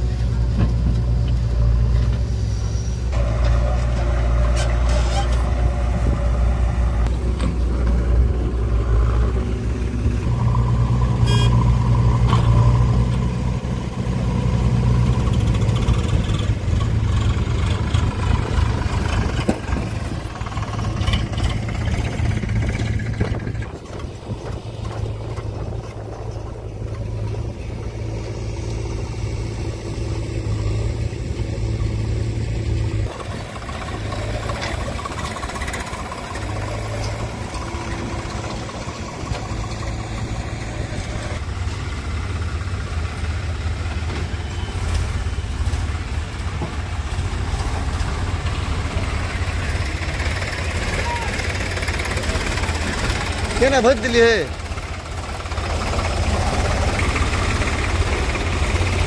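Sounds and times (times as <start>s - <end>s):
backhoe diesel engine: 0.0s - 59.0s
tractor diesel engine: 0.0s - 59.0s.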